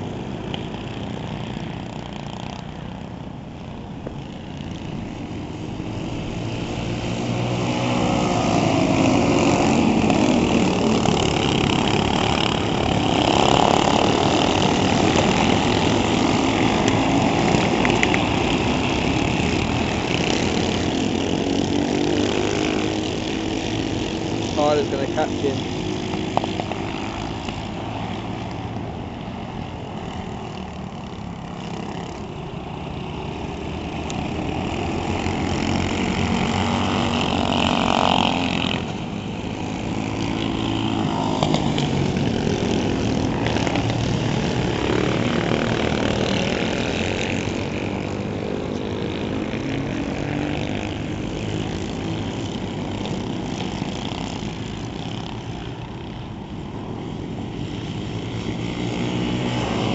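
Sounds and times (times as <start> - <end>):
kart engines revving: 0.0 - 59.9.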